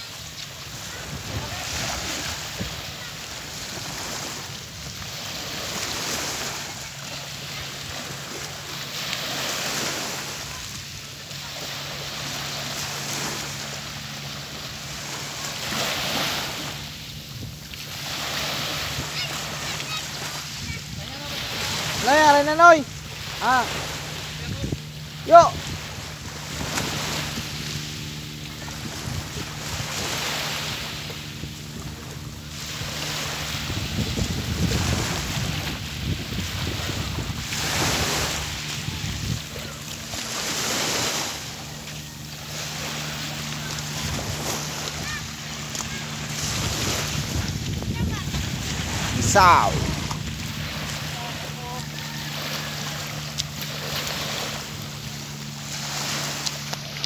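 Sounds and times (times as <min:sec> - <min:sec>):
low steady hum: 0:00.0 - 0:57.0
small waves lapping on shore: 0:00.0 - 0:57.0.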